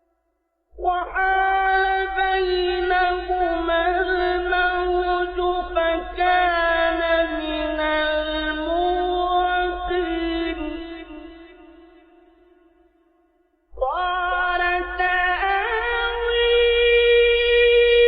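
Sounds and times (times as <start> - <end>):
man reciting melodically: 0.8 - 12.0, 13.7 - 18.0.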